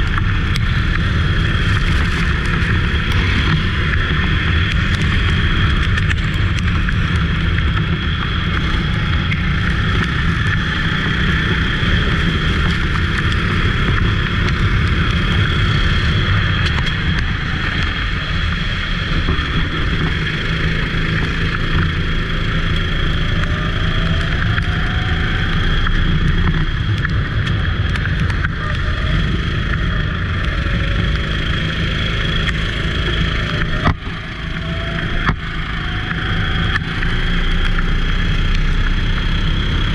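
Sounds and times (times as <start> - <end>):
continuous rushing noise: 0.0 - 39.9
go-kart engine running: 0.0 - 39.9.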